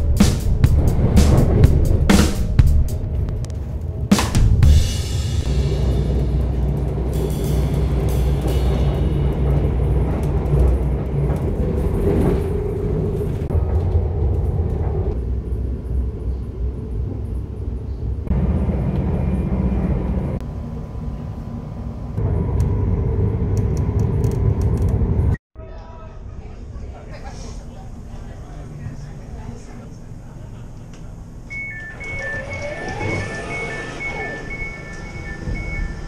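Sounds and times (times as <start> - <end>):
train rumbling inside carriage: 0.0 - 25.4, 26.9 - 36.0.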